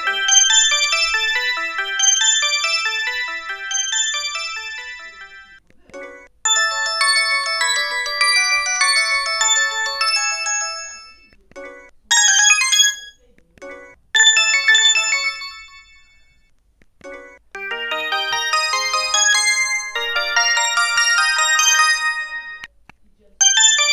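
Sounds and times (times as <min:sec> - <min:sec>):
polyphonic phone ringtones: 0:00.0 - 0:05.6, 0:06.5 - 0:13.2, 0:14.2 - 0:16.4, 0:17.1 - 0:22.7, 0:23.4 - 0:23.9.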